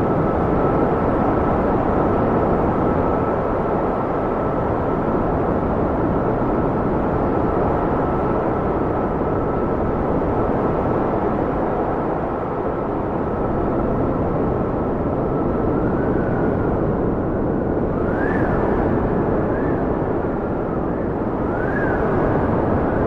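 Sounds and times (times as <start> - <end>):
wind howling: 0.0 - 23.0.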